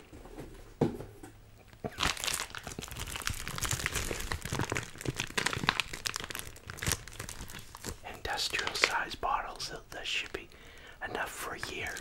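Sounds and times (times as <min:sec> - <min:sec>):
plastic shrink-wrap crinkling: 0:01.8 - 0:12.0.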